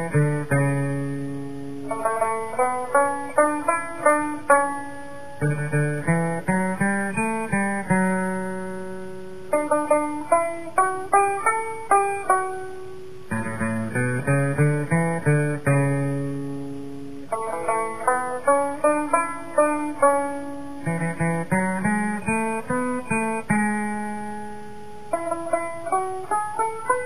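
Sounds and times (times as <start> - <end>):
banjo plucking: 0.0 - 27.0.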